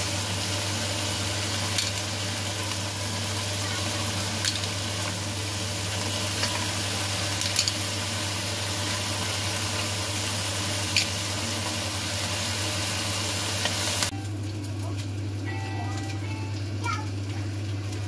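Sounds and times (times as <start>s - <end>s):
frying pan sizzling: 0.0s - 18.0s.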